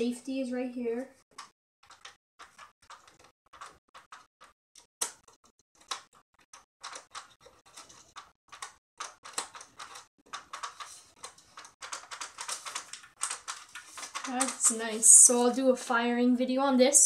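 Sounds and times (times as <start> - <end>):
plastic scraping: 1.4 - 15.6.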